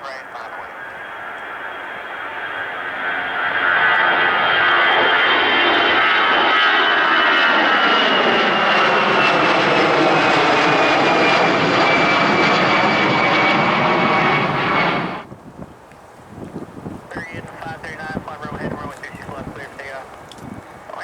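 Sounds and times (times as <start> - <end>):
jet engines passing close: 0.0 - 21.0.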